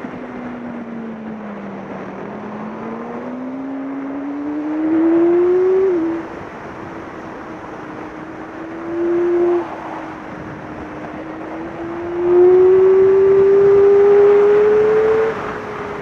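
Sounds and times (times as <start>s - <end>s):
wind rush: 0.0s - 16.0s
motorcycle engine revving: 1.5s - 16.0s.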